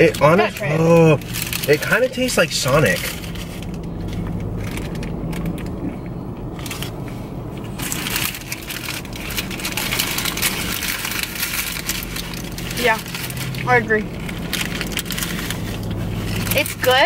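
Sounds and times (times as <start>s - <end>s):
paper wrapper crinkling: 0.0s - 17.0s.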